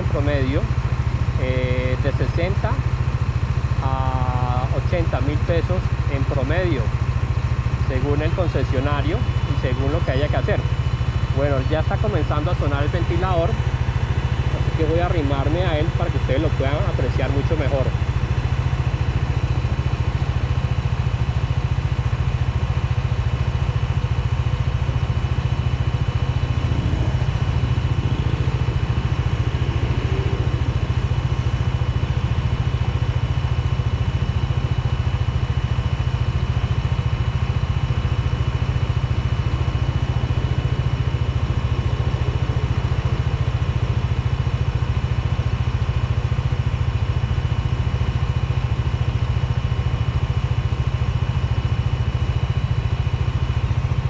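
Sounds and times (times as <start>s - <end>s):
cooling fan whine: 0.0s - 54.0s
motorcycle idling: 0.0s - 54.0s.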